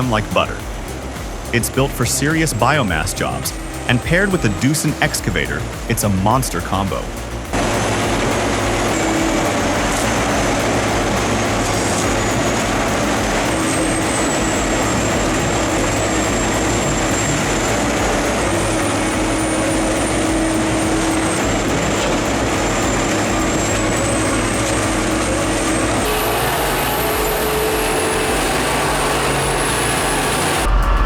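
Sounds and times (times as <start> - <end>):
faint high whine: 0.0 - 31.0
heavy diesel engine droning: 0.0 - 31.0.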